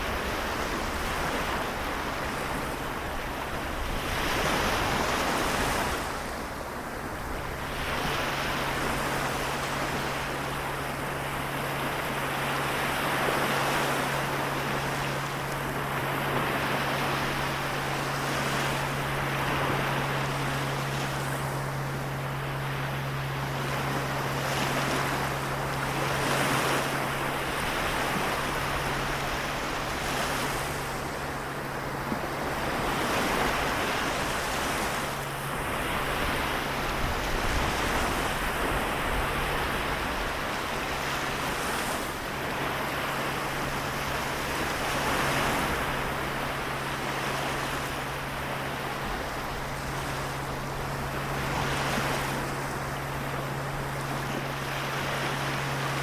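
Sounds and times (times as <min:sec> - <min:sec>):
small waves washing on shore: 0:00.0 - 0:56.0
steady low hum: 0:00.0 - 0:56.0.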